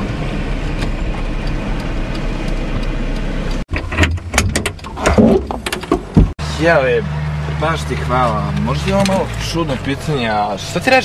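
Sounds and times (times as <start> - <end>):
car running inside cabin: 0.0 - 11.0.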